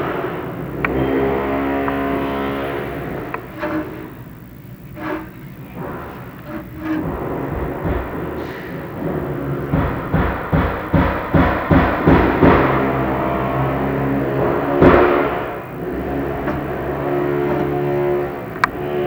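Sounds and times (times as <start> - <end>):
power tool motor running: 0.0 - 19.0
knocks and clatter: 2.8 - 19.0.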